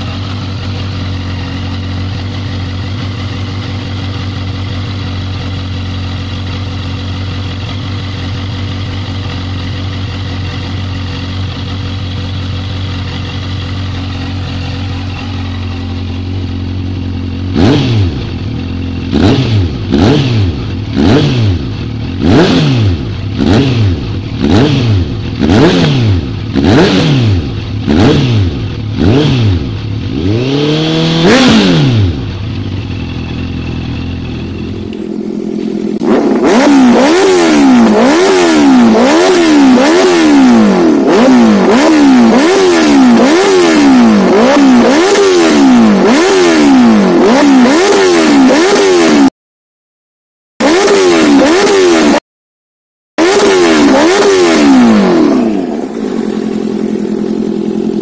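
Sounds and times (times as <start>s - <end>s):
motorcycle engine revving: 0.0s - 49.4s, 50.6s - 52.2s, 53.2s - 58.0s.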